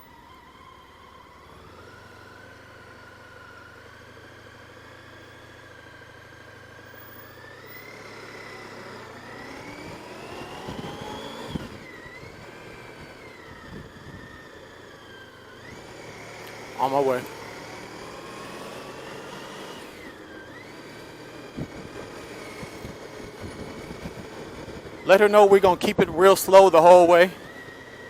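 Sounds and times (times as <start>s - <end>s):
motorcycle engine whining: 0.0s - 28.0s.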